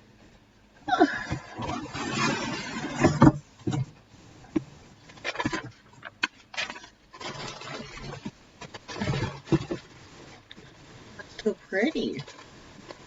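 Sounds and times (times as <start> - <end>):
packaging rustling and scraping: 1.6 - 13.0.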